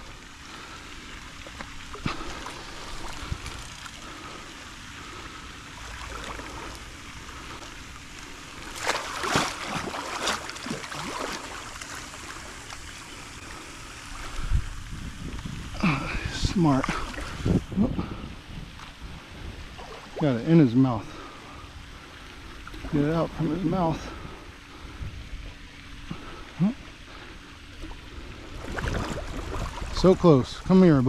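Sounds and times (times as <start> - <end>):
water splashing around an alligator: 0.0 - 31.0.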